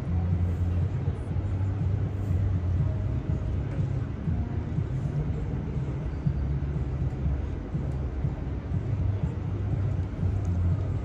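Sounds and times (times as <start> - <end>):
low fluttering street rumble: 0.0 - 11.0.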